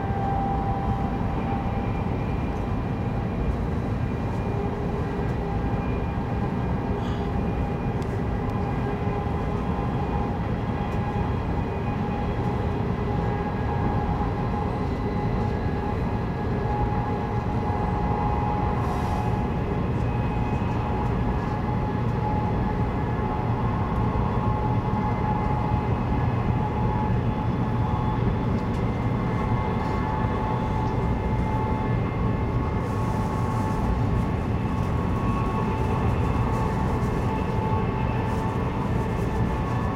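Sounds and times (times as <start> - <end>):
rumble of train wheels on rails: 0.0 - 39.9.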